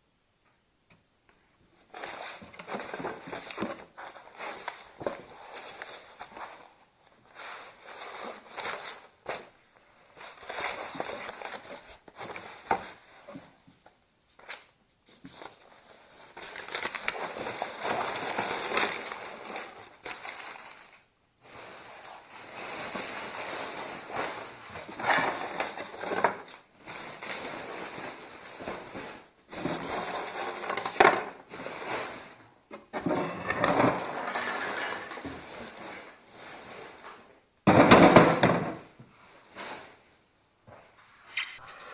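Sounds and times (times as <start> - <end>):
paper and cardboard rustling: 1.9 - 13.6, 14.4 - 37.3.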